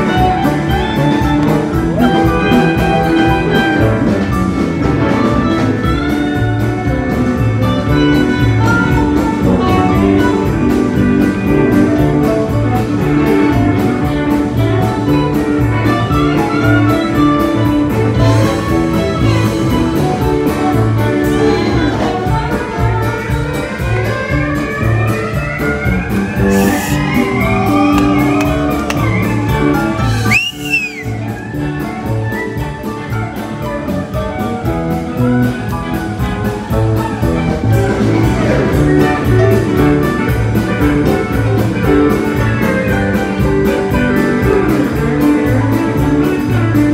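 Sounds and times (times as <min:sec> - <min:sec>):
country rock band playing: 0:00.0 - 0:46.9
rising guitar slides: 0:00.0 - 0:46.9.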